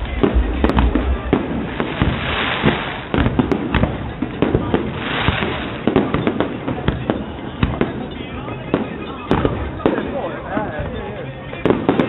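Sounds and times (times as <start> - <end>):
fireworks hissing: 0.0 - 10.9
fireworks bangs and pops: 0.0 - 12.0.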